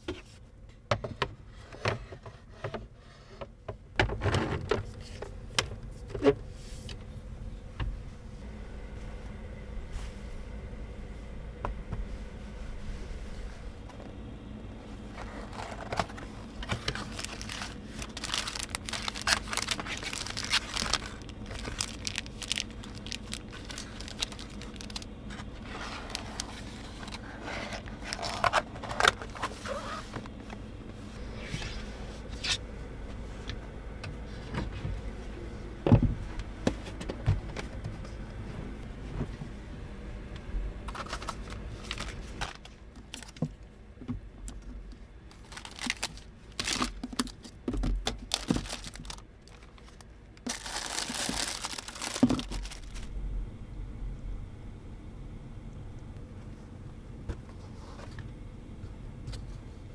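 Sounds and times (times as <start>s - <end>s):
steady low hum: 0.0s - 59.9s
rustling and crinkling: 4.0s - 39.7s, 40.8s - 53.3s, 56.0s - 59.9s.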